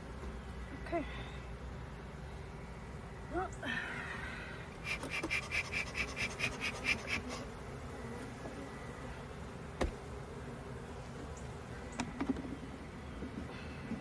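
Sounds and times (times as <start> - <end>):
honey bees buzzing: 0.0 - 14.0.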